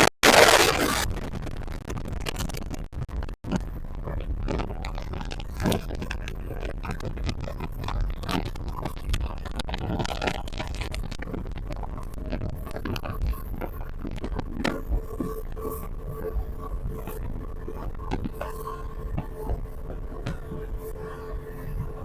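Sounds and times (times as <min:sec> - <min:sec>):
boat engine rumble: 0:00.0 - 0:22.0
wind buffeting microphone: 0:03.4 - 0:22.0.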